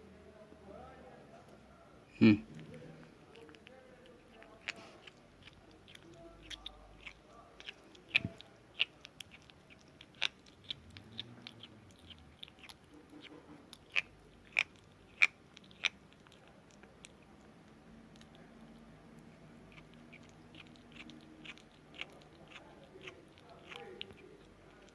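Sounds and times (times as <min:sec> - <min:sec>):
kitten crunching food: 0:02.4 - 0:24.9.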